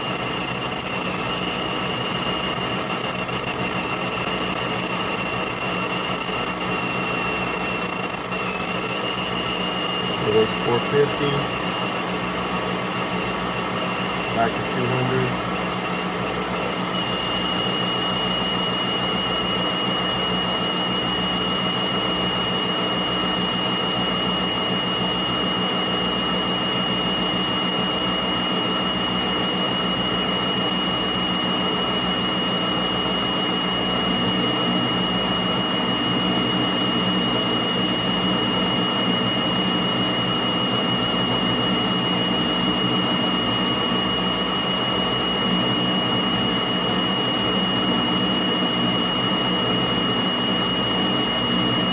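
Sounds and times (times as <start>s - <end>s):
lathe motor hum: 0.0s - 51.9s
metal lathe whine: 0.0s - 51.9s.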